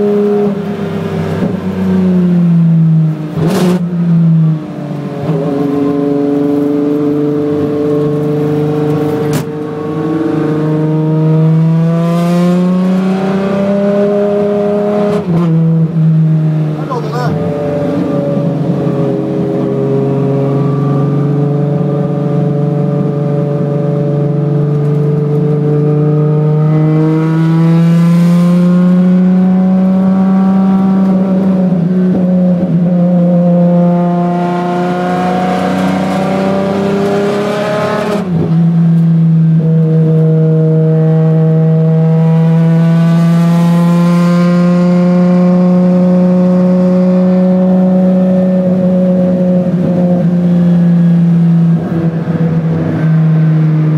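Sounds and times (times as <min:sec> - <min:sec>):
car engine running hard: 0:00.0 - 0:53.9.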